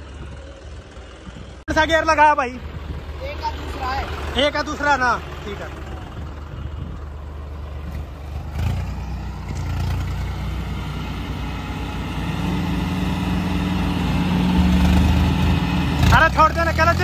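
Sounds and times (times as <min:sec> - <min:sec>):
tractor diesel engines labouring: 0:00.0 - 0:17.0.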